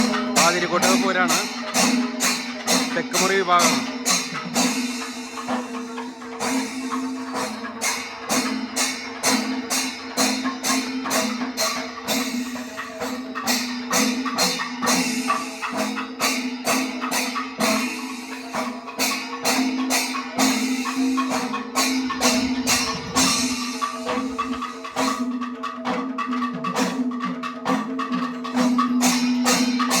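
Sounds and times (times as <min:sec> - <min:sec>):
drum and cymbal strikes: 0:00.0 - 0:30.0.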